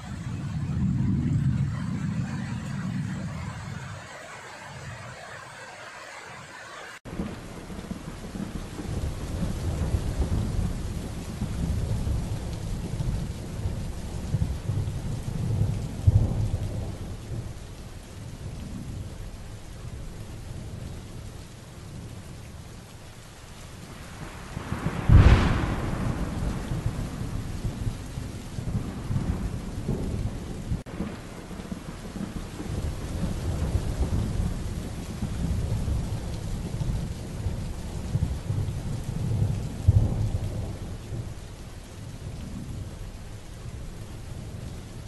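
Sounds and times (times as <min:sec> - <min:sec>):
thunder clap and rumble: 0:00.0 - 0:23.1, 0:23.7 - 0:45.0
steady rain: 0:00.0 - 0:45.0.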